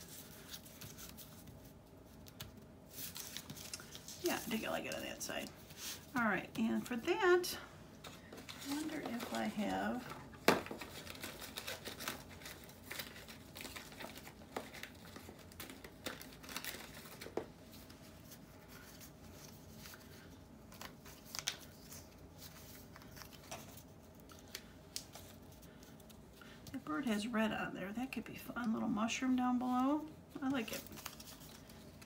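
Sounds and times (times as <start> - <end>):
paper rustling and crinkling: 0.0 - 7.4, 8.0 - 26.8, 29.7 - 32.0.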